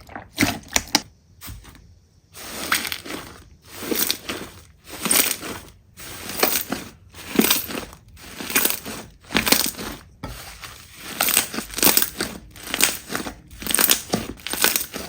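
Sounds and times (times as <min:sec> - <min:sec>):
slime squishing: 0:00.0 - 0:15.0.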